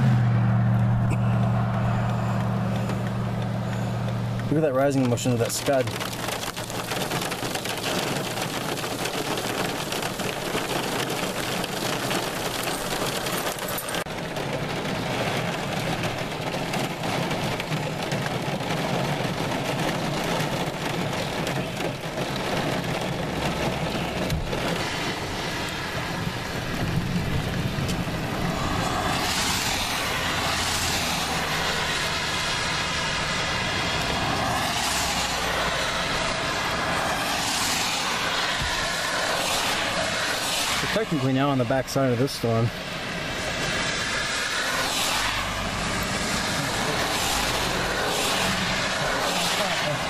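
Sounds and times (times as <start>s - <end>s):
road noise: 0.0s - 50.0s
rain pattering on car: 0.7s - 50.0s.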